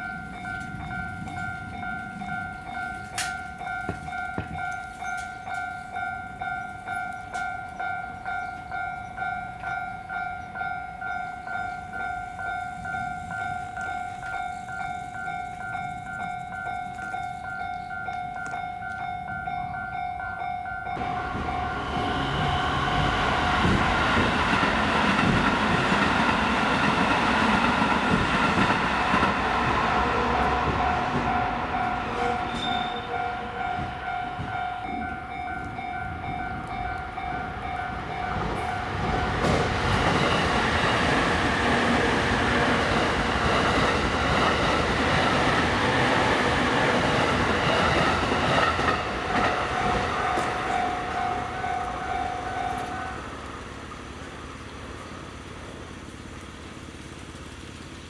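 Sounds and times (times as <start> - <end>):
level-crossing warning bell: 0.0 - 55.5
trains rumbling past: 0.0 - 58.0.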